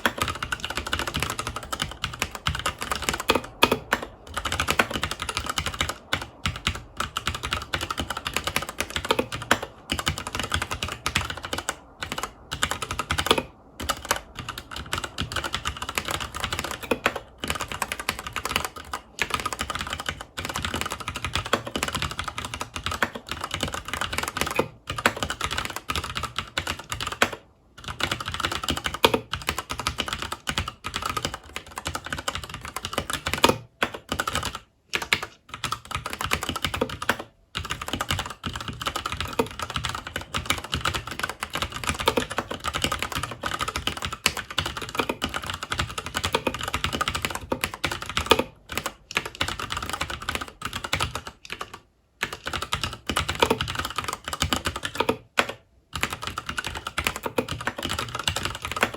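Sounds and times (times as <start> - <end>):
fast typing on mechanical keyboard: 0.0 - 58.9.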